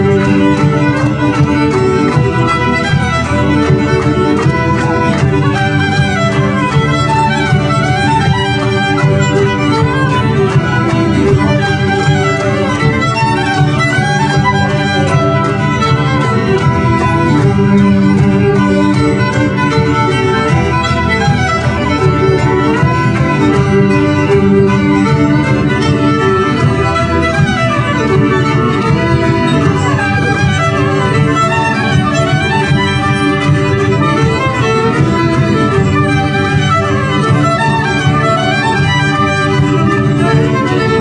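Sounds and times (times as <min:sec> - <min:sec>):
folk band playing: 0:00.0 - 0:41.0.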